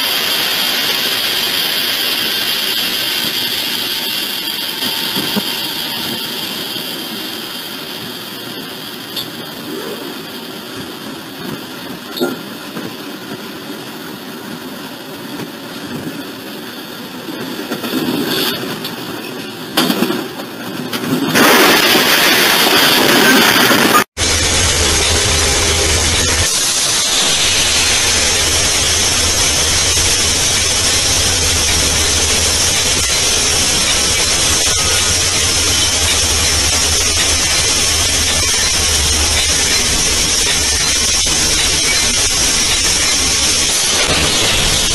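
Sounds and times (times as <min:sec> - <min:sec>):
locomotive engine and wheels rumble: 0:00.0 - 0:44.9
wind and rail noise: 0:00.0 - 0:44.9.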